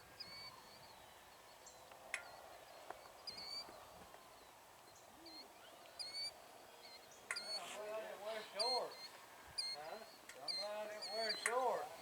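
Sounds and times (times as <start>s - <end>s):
faint bird chirps: 0.0s - 11.7s
background hiss: 0.0s - 12.0s.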